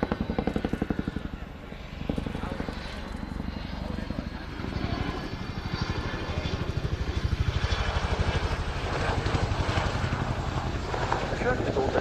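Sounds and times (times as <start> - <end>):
helicopter rotors thudding: 0.0 - 12.0.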